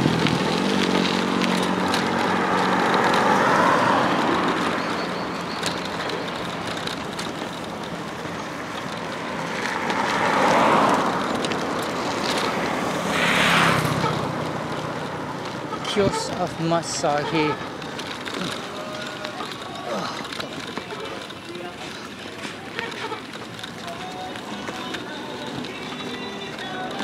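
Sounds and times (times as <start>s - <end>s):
motorcycle engine running: 0.0s - 27.0s
road noise: 0.0s - 27.0s.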